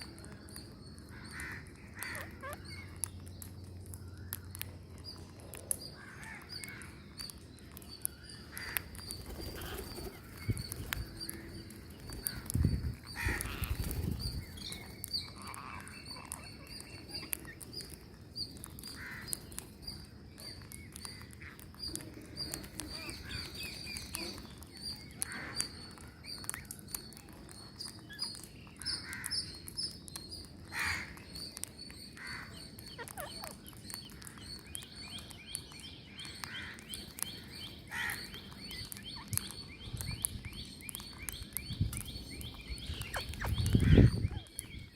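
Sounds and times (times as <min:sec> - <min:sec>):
birds calling and chirping: 0:00.0 - 0:44.9.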